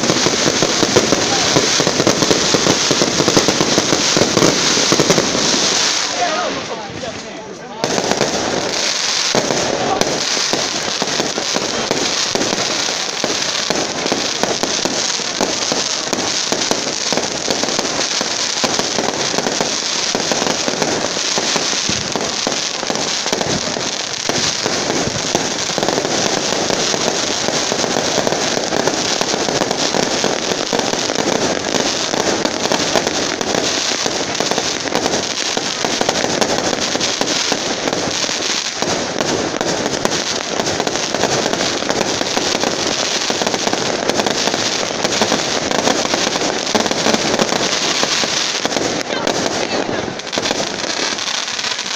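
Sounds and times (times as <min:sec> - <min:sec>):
fireworks crackling and banging: 0:00.0 - 0:51.9.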